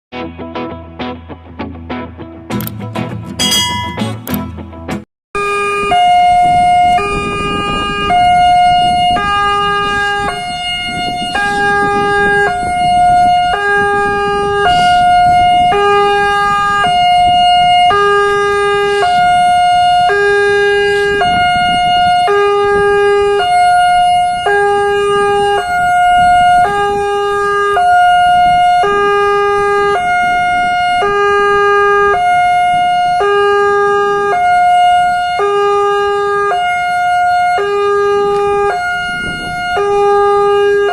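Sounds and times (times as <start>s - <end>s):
road traffic rumble: 5.4s - 40.9s
two-tone warning siren: 5.4s - 40.9s.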